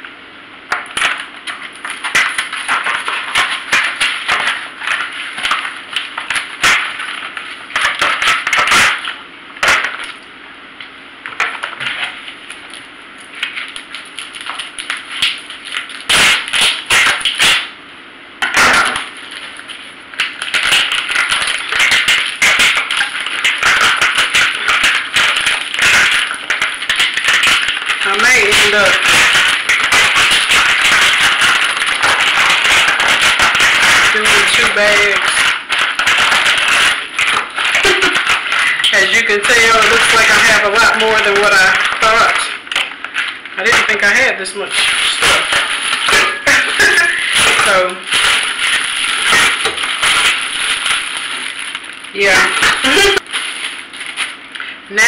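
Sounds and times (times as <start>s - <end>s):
plastic packaging crinkling: 0.6s - 10.3s, 11.2s - 17.8s, 18.4s - 55.0s.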